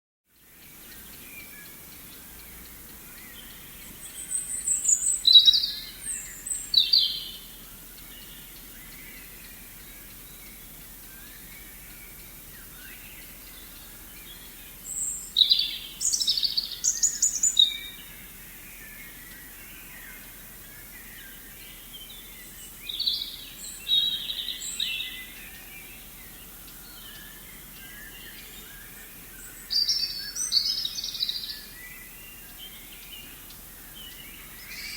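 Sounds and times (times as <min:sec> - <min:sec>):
songbirds chirping: 0:00.3 - 0:34.9
steady background hiss: 0:00.3 - 0:34.9.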